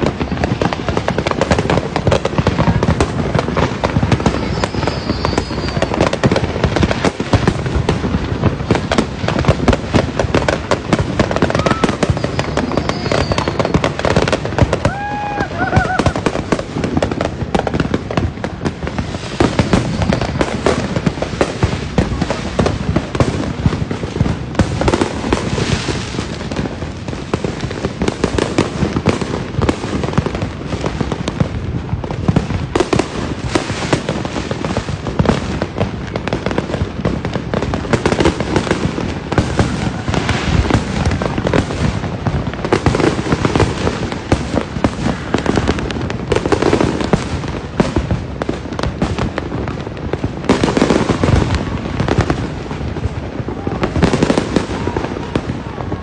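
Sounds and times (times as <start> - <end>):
fireworks and firecrackers popping: 0.0 - 56.0.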